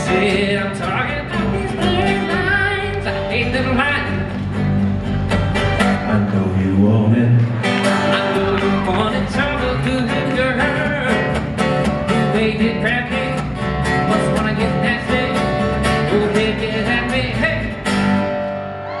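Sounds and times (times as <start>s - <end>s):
person singing: 0.0s - 4.3s, 6.0s - 17.8s
electric bass: 0.0s - 19.0s
strummed acoustic guitars: 0.0s - 19.0s.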